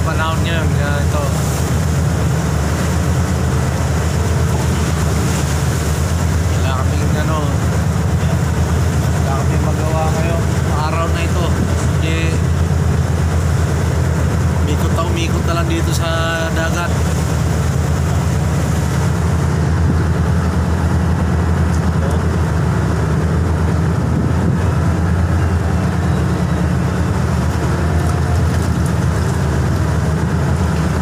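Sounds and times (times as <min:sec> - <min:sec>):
rough sea wash: 0:00.0 - 0:31.0
ship engines droning: 0:00.0 - 0:31.0.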